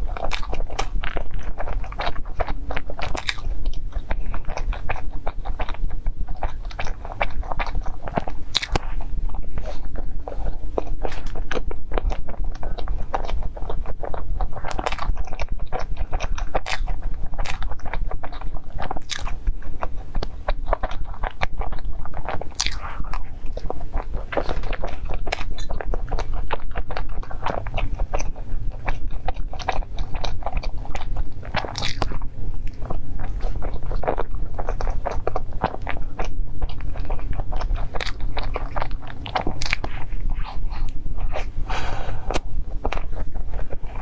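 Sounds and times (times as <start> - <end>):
biting and chewing pastry: 0.0 - 44.0
wet mouth clicks: 0.0 - 44.0.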